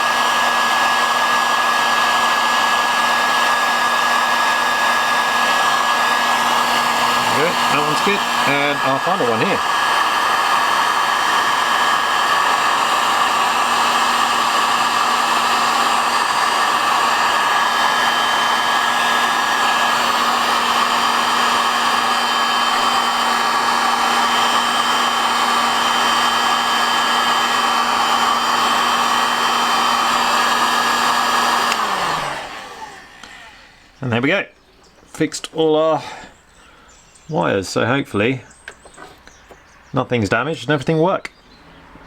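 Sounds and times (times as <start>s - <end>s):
fan winding down: 0.0s - 34.0s
heat gun blowing: 0.0s - 34.0s, 38.5s - 39.6s.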